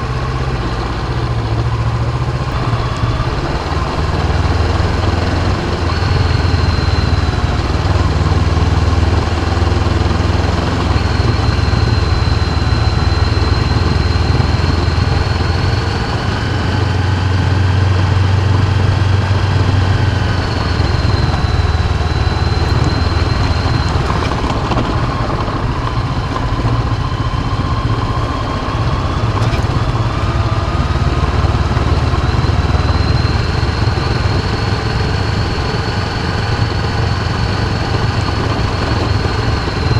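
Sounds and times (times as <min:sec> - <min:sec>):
high-pitched whine: 0:00.0 - 0:39.9
motorcycle engine running: 0:00.0 - 0:39.9
wind and road noise: 0:00.0 - 0:39.9.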